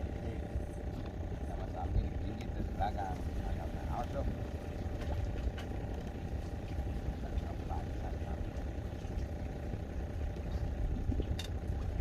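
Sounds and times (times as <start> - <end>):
engine running with low rumble: 0.0 - 12.0
faint hum: 0.0 - 12.0.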